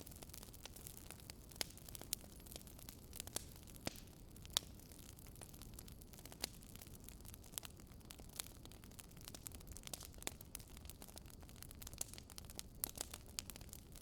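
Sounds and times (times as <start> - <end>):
logs crackling and popping: 0.0 - 14.0
low steady fire rumble: 0.0 - 14.0.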